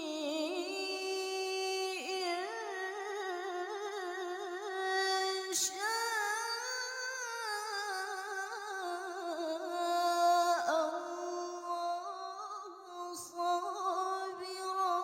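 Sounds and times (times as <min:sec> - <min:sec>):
woman reciting melodically: 0:00.0 - 0:15.0.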